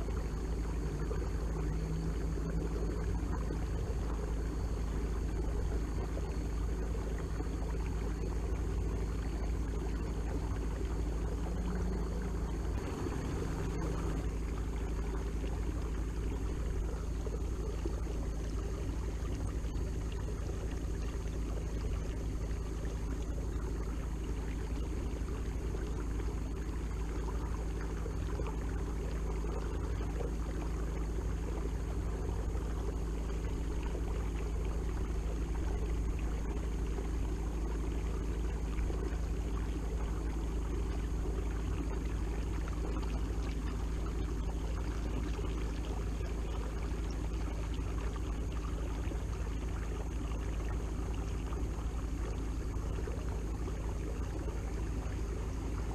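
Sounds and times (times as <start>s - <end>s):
electric motor hum with whine: 0.0s - 55.9s
water rushing along hull: 0.0s - 55.9s.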